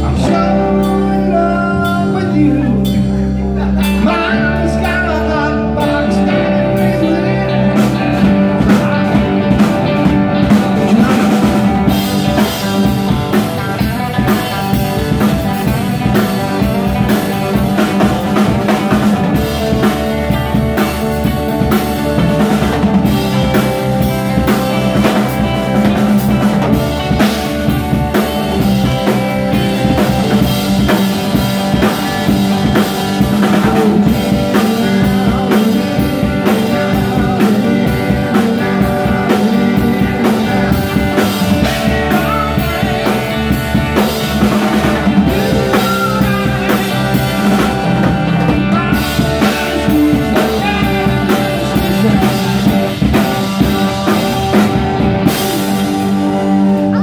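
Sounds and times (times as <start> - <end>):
drum kit beat: 0.0 - 57.0
electric bass: 0.0 - 57.0
electric guitars: 0.0 - 57.0.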